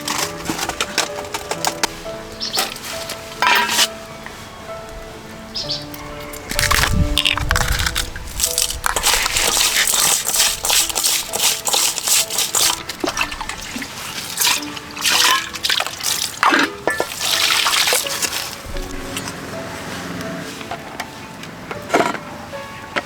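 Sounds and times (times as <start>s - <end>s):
water splashing and sloshing: 0.0s - 4.5s, 6.2s - 23.0s
soft background music: 0.0s - 23.0s.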